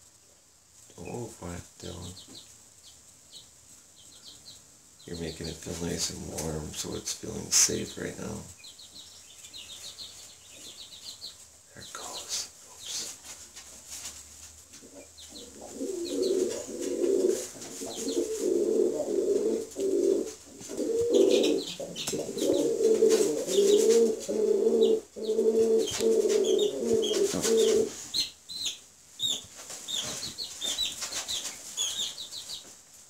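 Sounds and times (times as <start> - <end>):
baby chicks peeping: 0.0 - 33.0.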